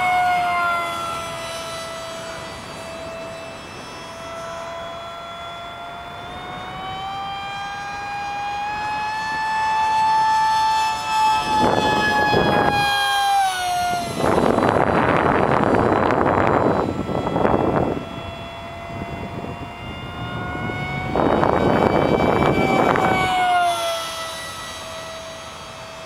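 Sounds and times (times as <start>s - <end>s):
fighter jet flying past: 0.0s - 26.0s.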